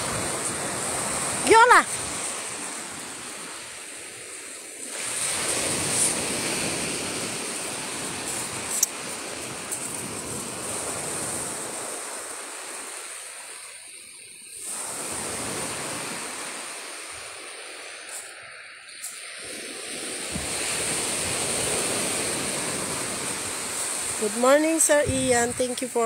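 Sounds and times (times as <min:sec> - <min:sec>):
surf breaking on beach: 0:00.0 - 0:26.0.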